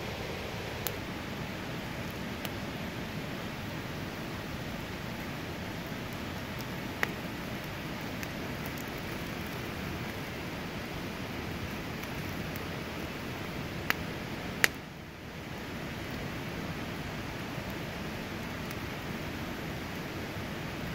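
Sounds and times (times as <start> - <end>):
campfire burning with hiss: 0.0 - 20.9
fire crackling pops: 0.1 - 20.9.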